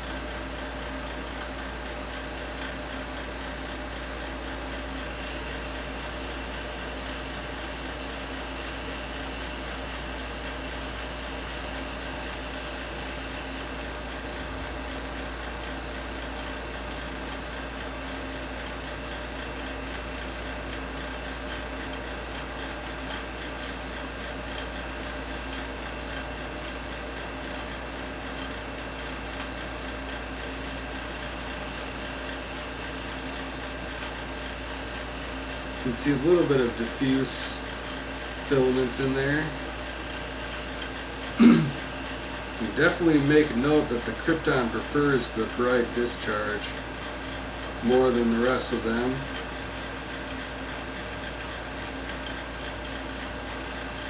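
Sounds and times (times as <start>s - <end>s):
tesla coil buzzing: 0.0s - 54.0s
vacuum pump running: 0.0s - 54.0s.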